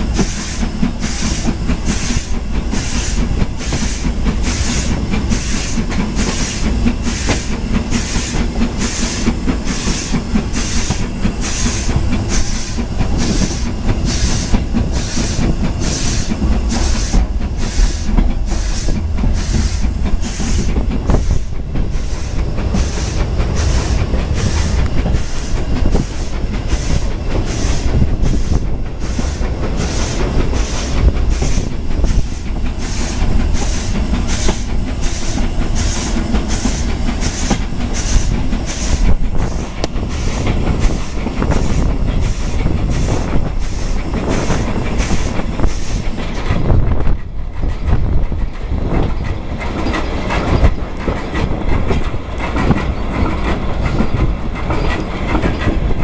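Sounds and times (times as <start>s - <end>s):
brake van rumbling on track: 0.0s - 56.0s
steam locomotive exhaust beats: 0.0s - 56.0s.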